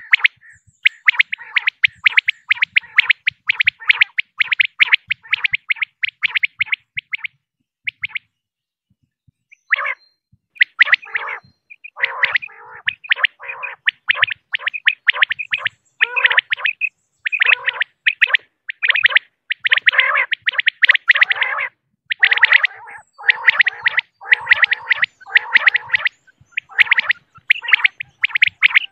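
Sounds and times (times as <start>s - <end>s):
quail calling: 0.0s - 8.3s, 9.6s - 10.0s, 10.6s - 28.9s.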